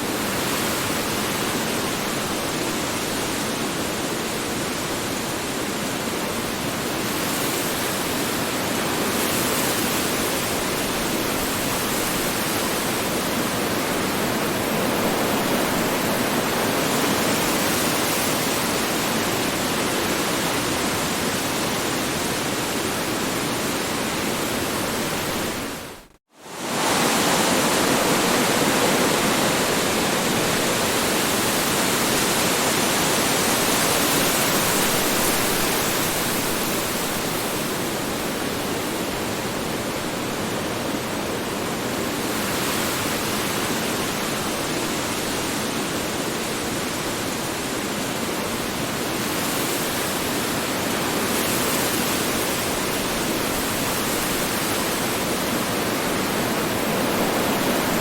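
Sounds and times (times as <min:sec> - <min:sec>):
strong wind blowing: 0:08.8 - 0:45.6, 0:46.4 - 0:58.0.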